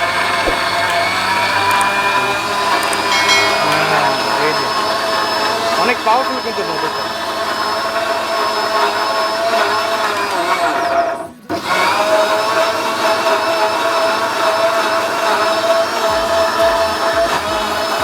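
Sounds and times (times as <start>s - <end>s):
blender motor whining and churning: 0.0s - 18.0s.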